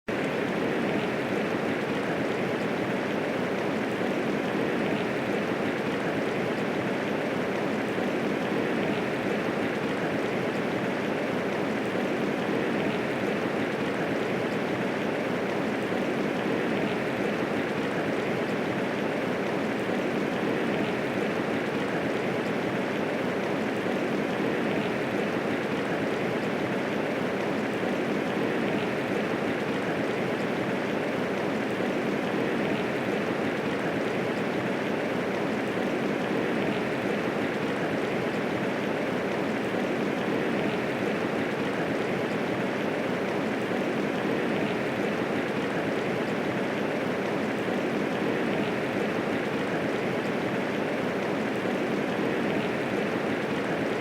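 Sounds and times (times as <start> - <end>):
steady rain hissing: 0.1 - 54.0.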